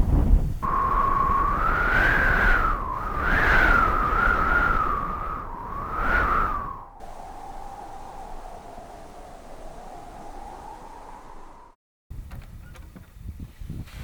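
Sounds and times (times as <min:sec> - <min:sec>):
storm wind howling: 0:00.0 - 0:11.8.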